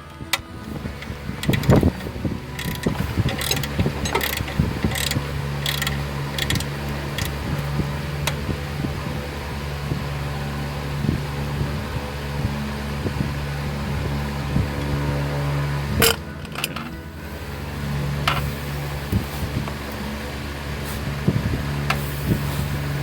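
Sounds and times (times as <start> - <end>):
electric fan humming: 0.0 - 23.0.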